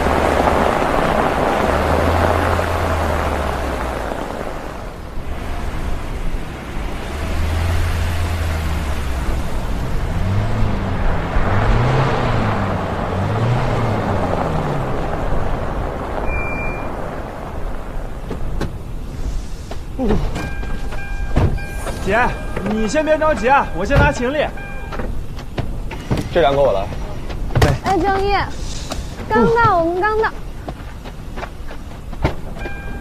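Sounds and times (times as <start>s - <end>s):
low engine hum: 0.0s - 33.0s
steady rush of noise: 0.0s - 33.0s.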